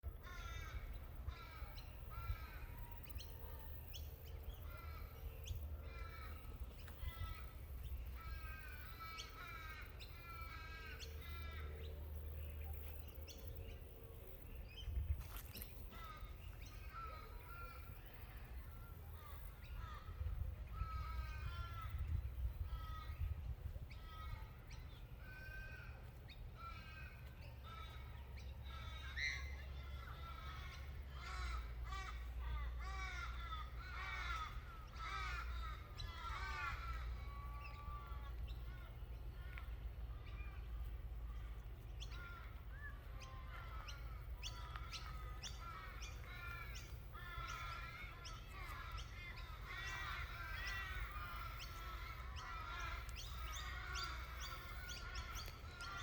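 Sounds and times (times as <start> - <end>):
birds harsh calls: 0.0 - 56.0
steady low rumble: 3.4 - 56.0.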